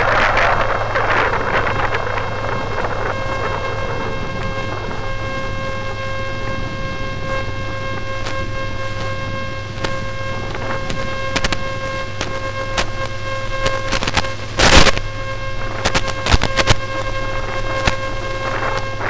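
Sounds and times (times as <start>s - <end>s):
electric propeller motors whining: 0.0s - 19.0s.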